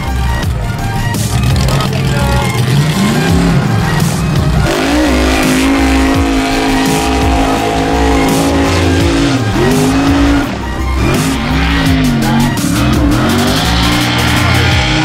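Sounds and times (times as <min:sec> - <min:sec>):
high-revving race engine: 0:01.2 - 0:15.0.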